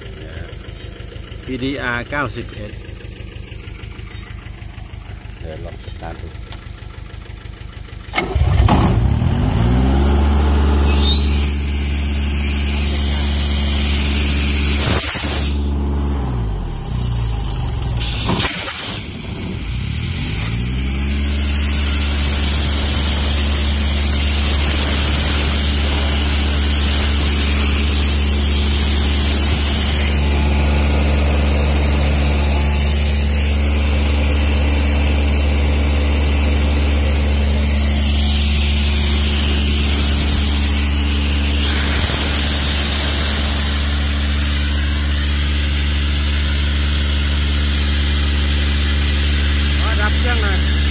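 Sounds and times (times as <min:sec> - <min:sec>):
diesel engine starting and running: 0:00.0 - 0:50.9.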